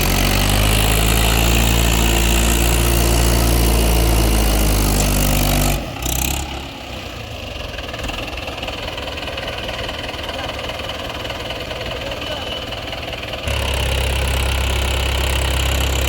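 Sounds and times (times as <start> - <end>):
heavy diesel engine running: 0.0 - 16.0
rough engine running: 0.0 - 16.0.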